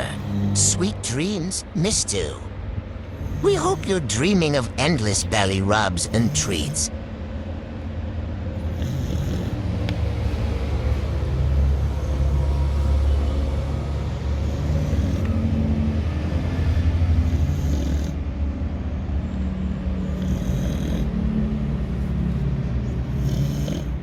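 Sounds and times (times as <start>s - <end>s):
dog snoring: 0.0s - 2.3s, 2.9s - 6.9s, 8.5s - 18.3s, 19.9s - 24.0s.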